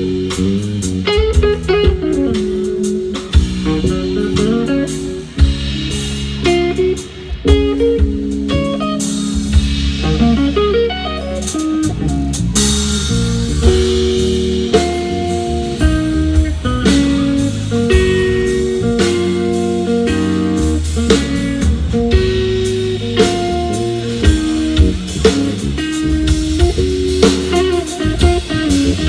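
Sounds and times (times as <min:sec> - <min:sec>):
bass: 0:00.0 - 0:29.0
drum kit: 0:00.0 - 0:29.0
electric guitar notes: 0:00.0 - 0:29.0.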